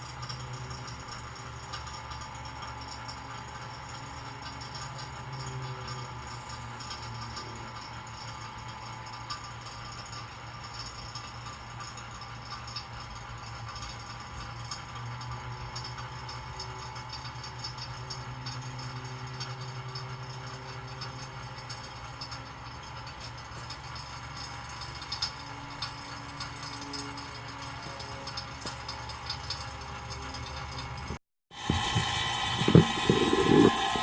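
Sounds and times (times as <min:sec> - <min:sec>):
vacuum pump rattly hum: 0:00.0 - 0:34.0.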